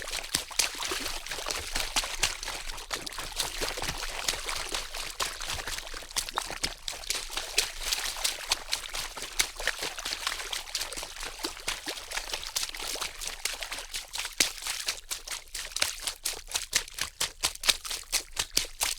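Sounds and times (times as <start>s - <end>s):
water splashing and dripping: 0.0s - 18.9s.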